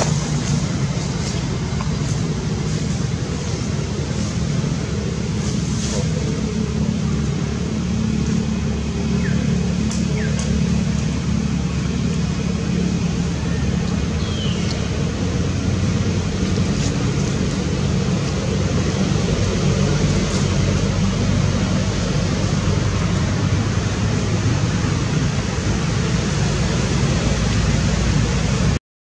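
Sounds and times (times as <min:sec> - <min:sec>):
loud rumbling noise with hiss: 0:00.0 - 0:28.8.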